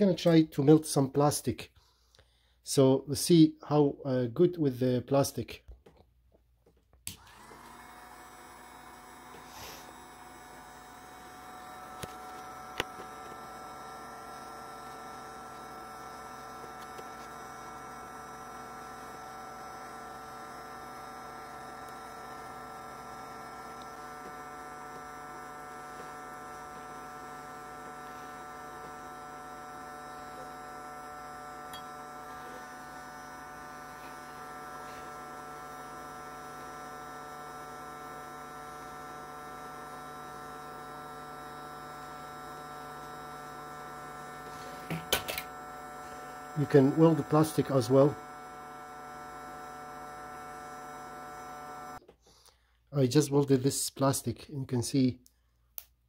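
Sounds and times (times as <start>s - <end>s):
hot air gun fan humming: 7.0s - 53.4s.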